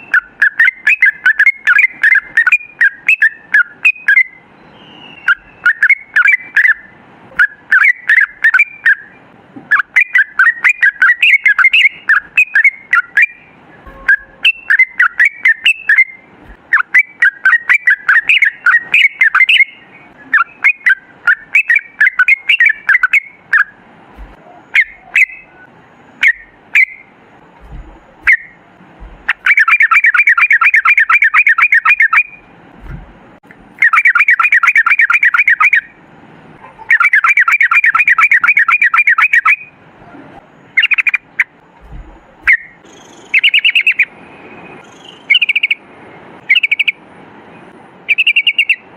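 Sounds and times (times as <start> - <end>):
bird chattering song: 0.0 - 23.8, 24.4 - 32.5, 33.7 - 36.0, 36.6 - 39.8, 40.7 - 45.8, 46.4 - 47.0, 48.1 - 48.9
fast rolling bird trill: 0.0 - 36.0, 36.6 - 39.8, 40.7 - 44.1, 44.8 - 47.0, 48.1 - 48.9.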